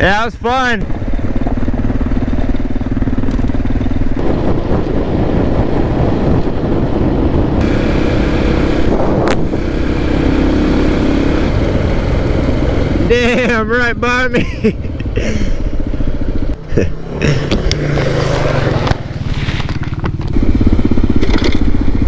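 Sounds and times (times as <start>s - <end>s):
motorcycle engine running: 0.8s - 22.0s.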